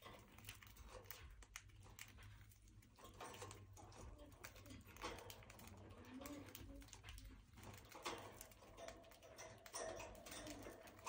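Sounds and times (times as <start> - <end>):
birds pecking and tapping: 0.0 - 11.0.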